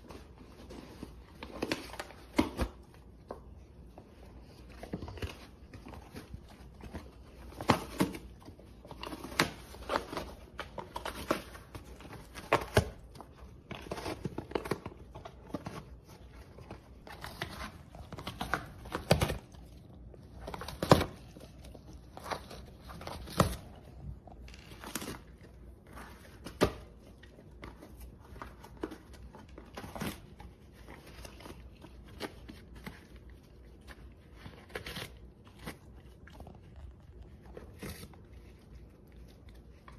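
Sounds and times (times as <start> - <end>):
dog tearing cardboard: 4.4 - 39.9.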